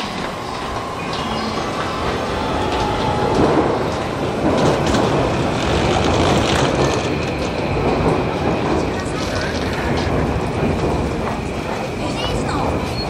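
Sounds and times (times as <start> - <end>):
train running: 0.0 - 13.0.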